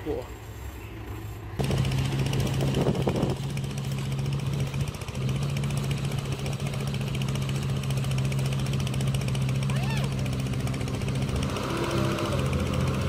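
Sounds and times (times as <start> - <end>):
excavator diesel engine running: 0.4 - 13.0.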